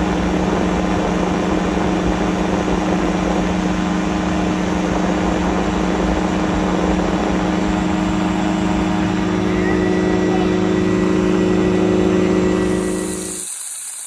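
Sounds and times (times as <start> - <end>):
light aircraft engine droning: 0.0 - 13.4
wind on microphone: 0.0 - 13.4.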